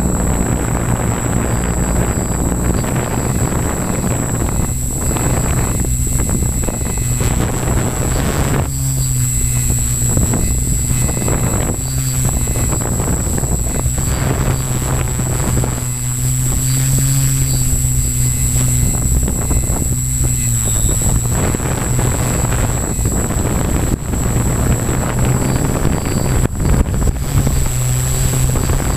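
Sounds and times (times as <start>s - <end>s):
drone propellers humming: 0.0s - 28.9s
high motor whine: 0.0s - 28.9s
wind buffeting microphone: 0.0s - 28.9s.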